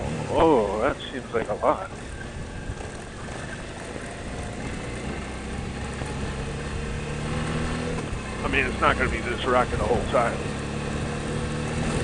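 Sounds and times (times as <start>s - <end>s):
motorcycle engine running: 0.0s - 12.0s
road noise: 0.0s - 12.0s
wind: 0.0s - 12.0s.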